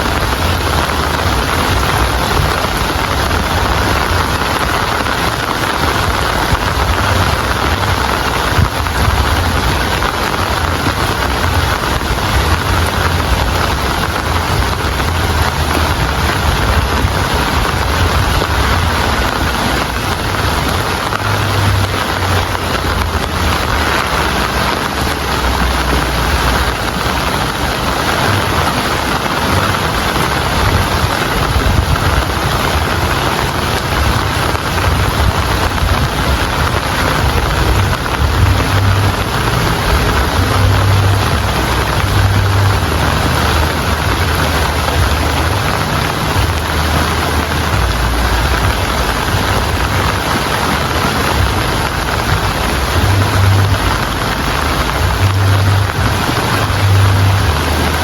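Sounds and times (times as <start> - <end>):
low rumble: 0.0 - 58.0
steady rain hiss: 0.0 - 58.0.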